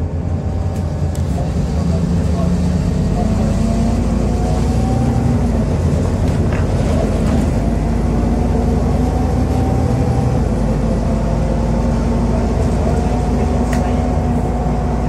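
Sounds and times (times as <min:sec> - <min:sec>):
bus diesel engine drone: 0:00.0 - 0:15.0
road rumble: 0:00.0 - 0:15.0.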